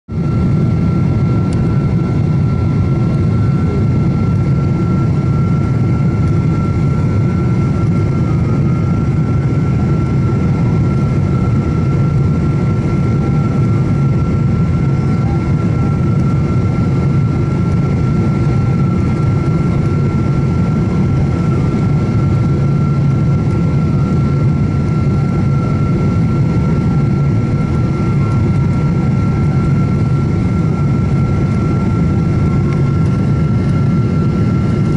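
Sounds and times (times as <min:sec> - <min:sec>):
aircraft cabin engine rumble: 0:00.1 - 0:34.9.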